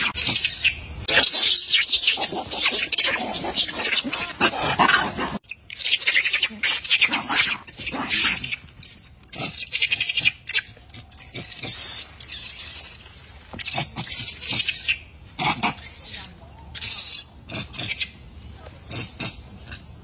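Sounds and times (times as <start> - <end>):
monkeys screaming: 0.0 - 18.2.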